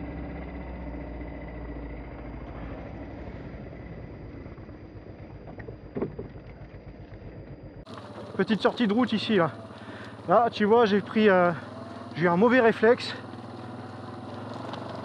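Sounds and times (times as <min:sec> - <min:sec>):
quad engine running at low speed: 0:00.0 - 0:15.0.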